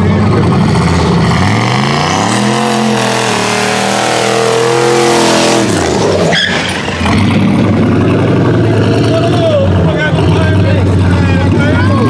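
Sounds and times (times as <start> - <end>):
tyres spinning in burnout: 0.1 - 12.0
engine revving at high revs: 0.4 - 11.7.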